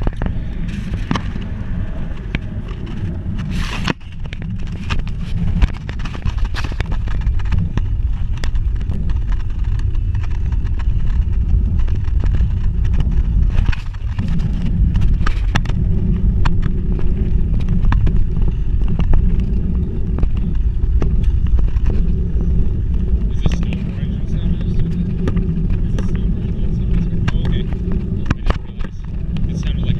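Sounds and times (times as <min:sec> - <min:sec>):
bicycle clicks and rattles: 0:00.0 - 0:29.9
wind and tyre noise: 0:00.0 - 0:29.9.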